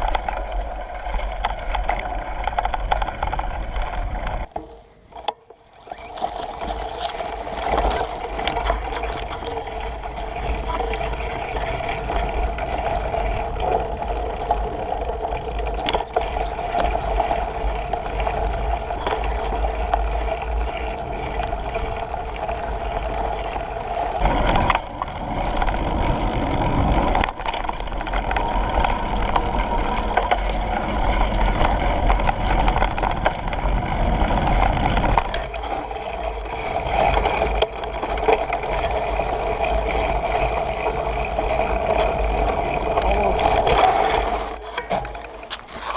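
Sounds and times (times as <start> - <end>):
bicycle humming and rattling: 0.0 - 45.9
wind rumble on microphone: 6.8 - 45.8.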